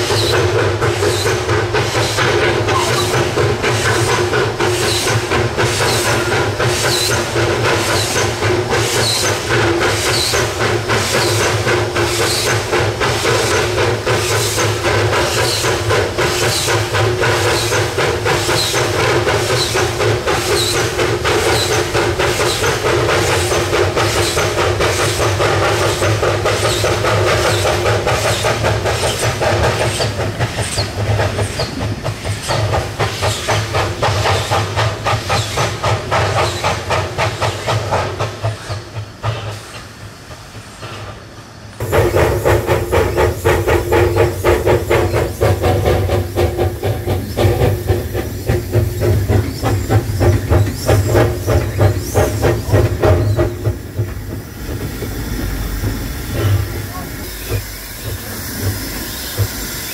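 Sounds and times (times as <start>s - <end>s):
steam hissing: 0.0s - 59.9s
steam locomotive exhaust beating: 0.0s - 59.9s.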